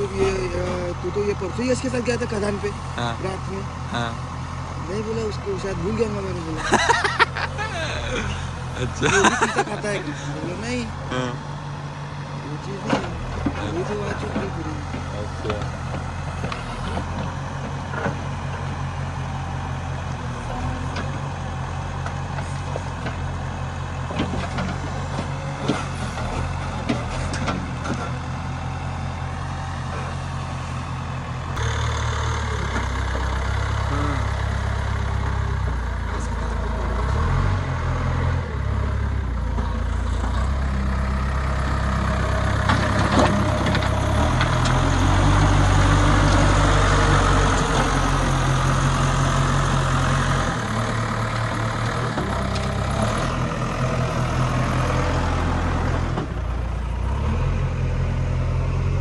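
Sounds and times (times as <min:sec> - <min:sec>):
diesel engine working: 0:00.0 - 0:59.0.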